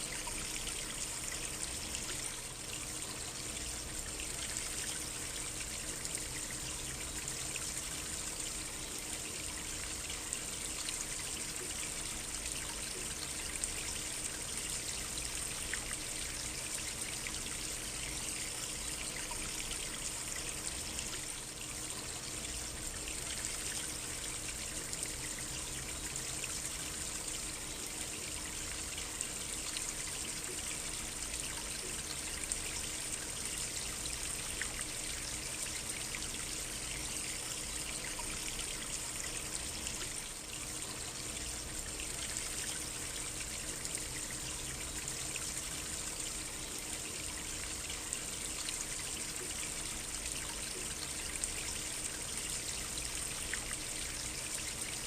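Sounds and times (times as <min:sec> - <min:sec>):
brook water trickling: 0:00.0 - 0:55.0.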